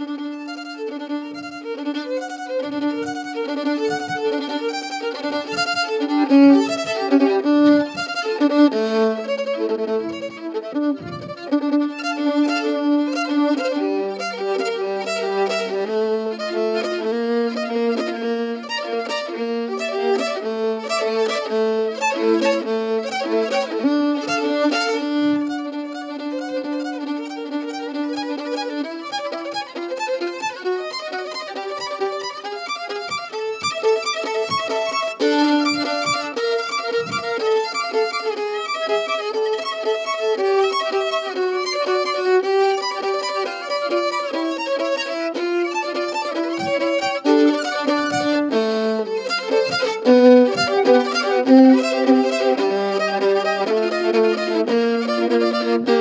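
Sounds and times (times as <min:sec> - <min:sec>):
violin melody: 0:00.0 - 0:56.0.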